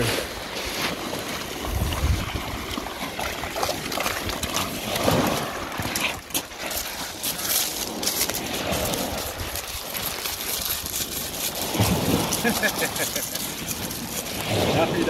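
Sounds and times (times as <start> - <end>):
splashing water: 0.0 - 15.0
surf washing over shingle: 0.0 - 15.0.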